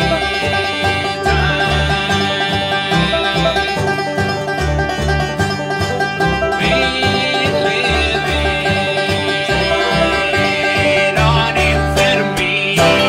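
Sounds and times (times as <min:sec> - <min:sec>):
banjo picking: 0:00.0 - 0:13.0
mandolin picking: 0:00.0 - 0:13.0
strummed acoustic guitar: 0:00.0 - 0:13.0
upright bass line: 0:00.0 - 0:13.0.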